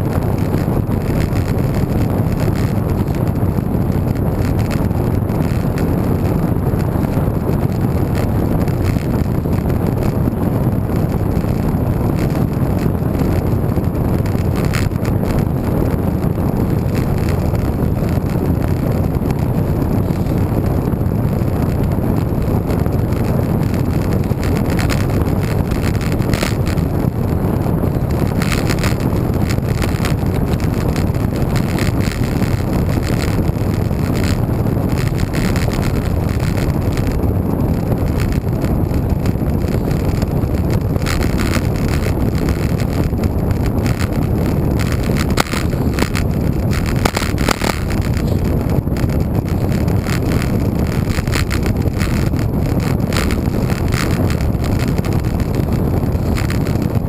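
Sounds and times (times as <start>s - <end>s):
faint bike ticks and rattles: 0.0s - 57.0s
wind buffeting microphone: 0.0s - 57.0s.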